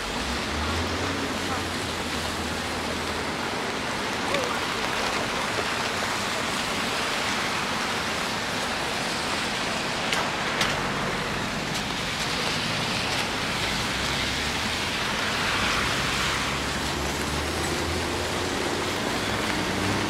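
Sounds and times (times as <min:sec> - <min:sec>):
steady rain on pavement: 0:00.0 - 0:20.0.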